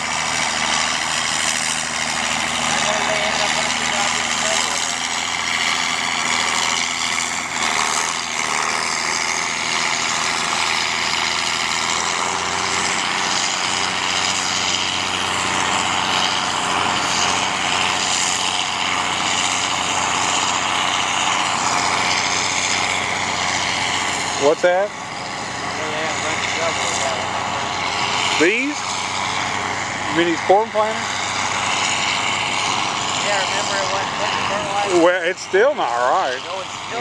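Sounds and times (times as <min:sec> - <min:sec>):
heavy engine droning: 0:00.0 - 0:37.0.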